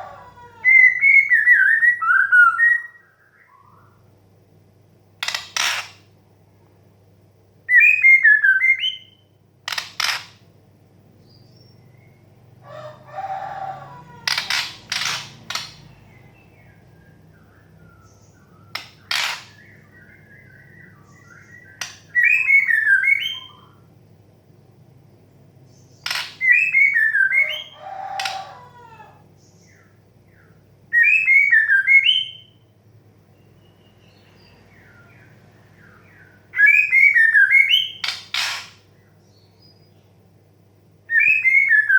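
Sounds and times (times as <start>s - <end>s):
faint low hum: 0.0s - 41.9s.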